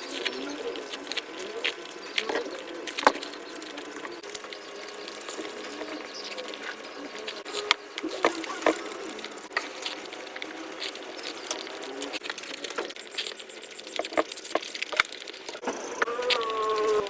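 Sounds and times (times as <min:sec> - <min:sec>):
fast wet chewing and smacking: 0:00.0 - 0:17.0.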